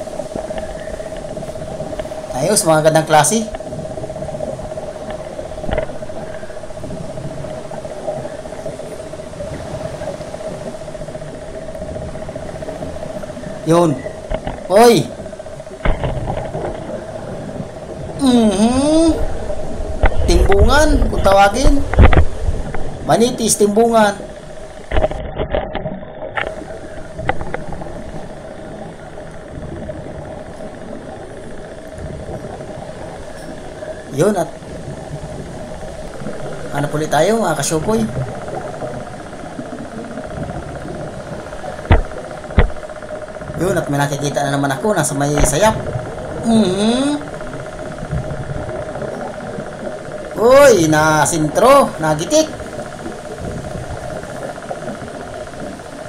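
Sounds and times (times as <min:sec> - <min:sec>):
muffled underwater noise: 0:00.0 - 0:56.0
steady mid-pitched hum: 0:00.0 - 0:56.0.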